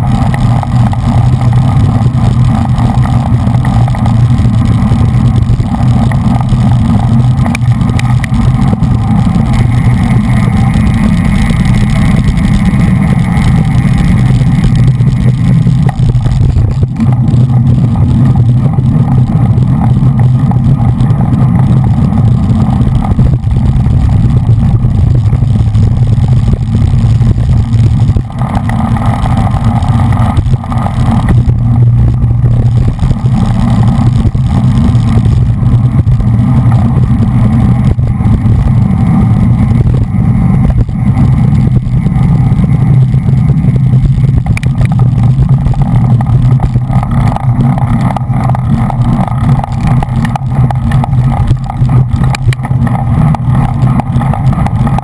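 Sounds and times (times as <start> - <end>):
road and tyre noise: 0.0 - 55.0
wind rushing over microphone: 0.0 - 55.0.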